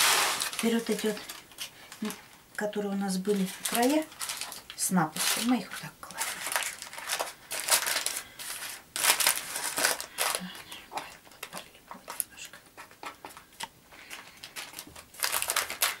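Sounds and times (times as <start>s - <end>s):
baking paper rustling and crinkling: 0.0s - 16.0s.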